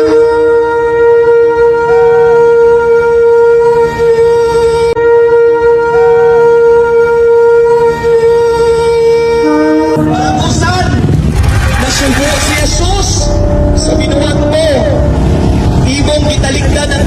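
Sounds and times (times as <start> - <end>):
shofar blast: 0.0 - 15.8.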